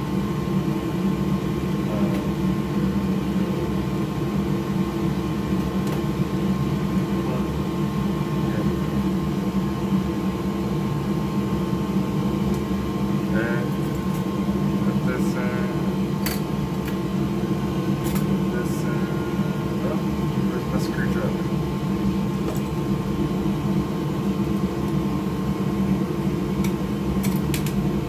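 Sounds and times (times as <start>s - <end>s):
mechanical whir and hum: 0.0s - 28.0s.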